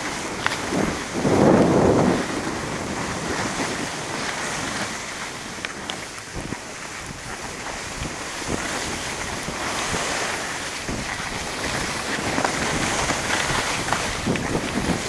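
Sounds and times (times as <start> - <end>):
skis sliding on snow: 0.0 - 15.0
wind buffeting microphone: 0.0 - 15.0.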